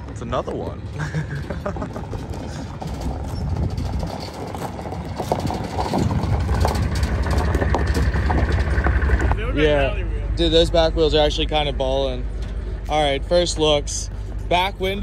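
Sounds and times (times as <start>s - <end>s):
gravel crunching: 0.0s - 15.0s
truck engine running: 0.0s - 15.0s.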